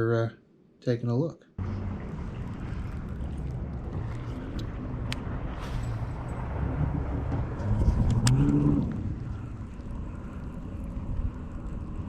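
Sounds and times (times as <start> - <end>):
motor engine rumbling: 1.6 - 12.0.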